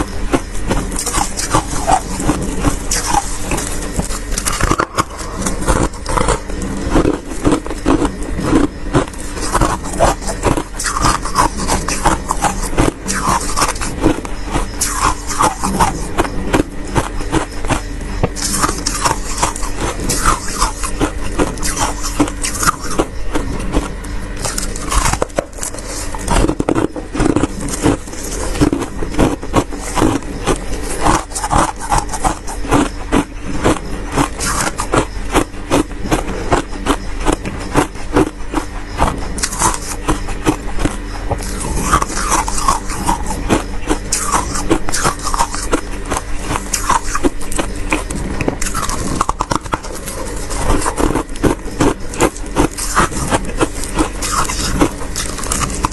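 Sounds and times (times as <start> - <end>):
frost being scraped and crunched: 0.0 - 55.9.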